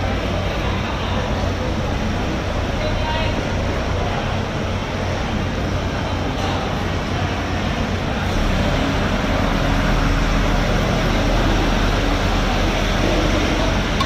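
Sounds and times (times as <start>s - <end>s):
constant noisy hiss: 0.0s - 14.0s
low mechanical rumble: 0.0s - 14.0s.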